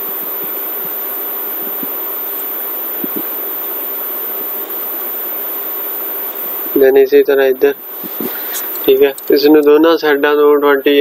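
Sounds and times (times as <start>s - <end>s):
microphone hiss and hum: 0.0s - 11.0s.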